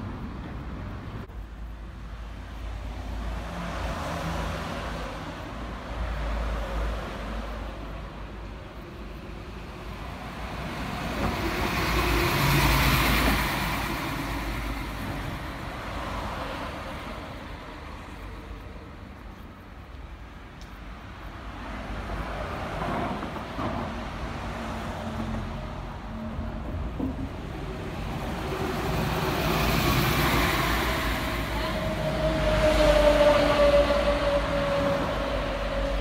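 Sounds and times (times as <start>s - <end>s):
bus passing: 0.0s - 36.0s.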